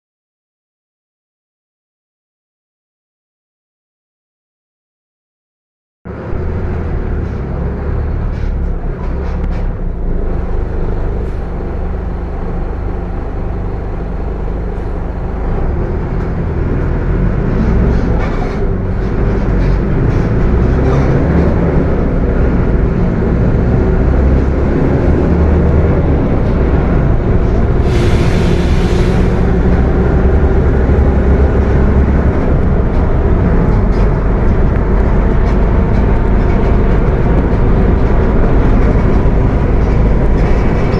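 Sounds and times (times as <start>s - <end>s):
bus engine running: 6.1s - 40.9s.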